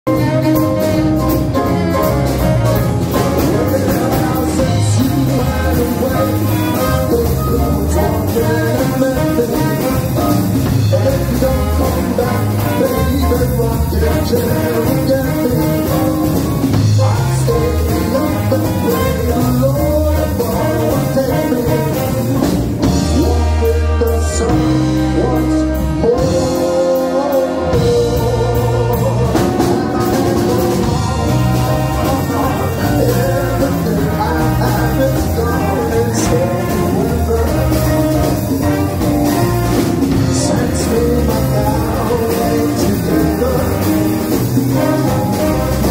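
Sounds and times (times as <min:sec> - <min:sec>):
big band playing jazz: 0:00.0 - 0:45.9
horns holding long notes: 0:00.1 - 0:45.9.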